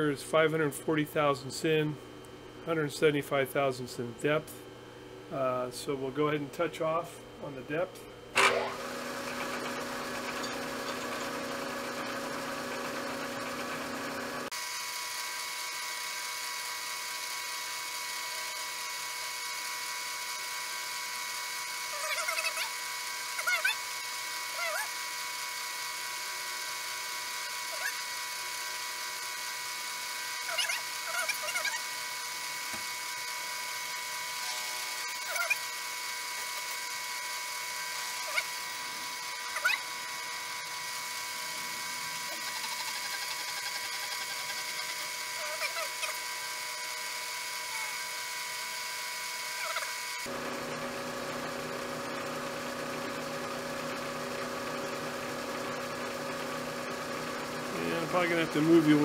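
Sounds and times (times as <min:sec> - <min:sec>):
milling machine cutting: 0:08.4 - 0:59.0.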